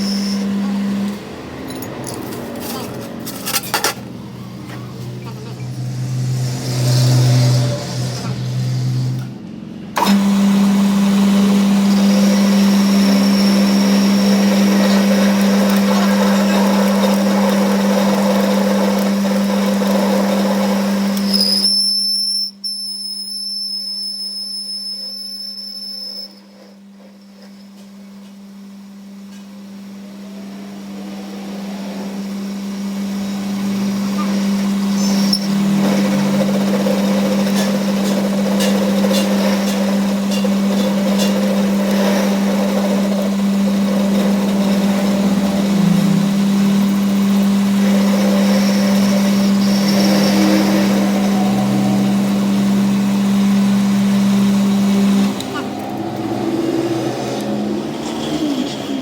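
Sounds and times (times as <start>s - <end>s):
workshop machine humming: 0.0s - 59.0s.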